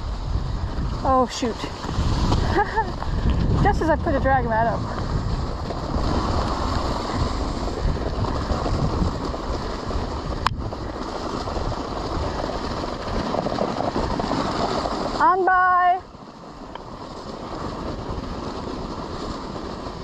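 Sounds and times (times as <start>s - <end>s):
sled runners sliding over snow: 0.0s - 20.0s
wind noise on microphone: 0.0s - 20.0s.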